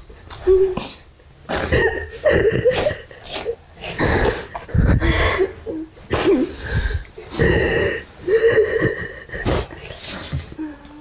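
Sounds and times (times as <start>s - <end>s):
woman sobbing: 1.7s - 11.0s.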